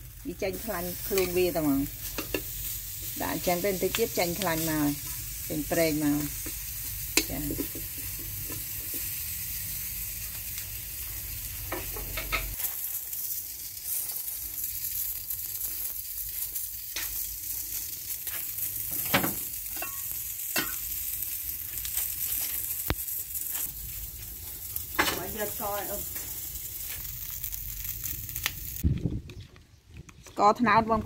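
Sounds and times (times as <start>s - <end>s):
fish sizzling in a wok: 0.0s - 28.8s.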